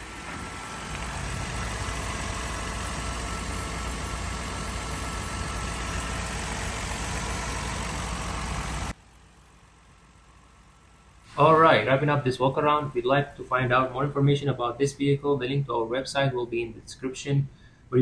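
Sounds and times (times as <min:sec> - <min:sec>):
van engine idling: 0:00.0 - 0:18.0.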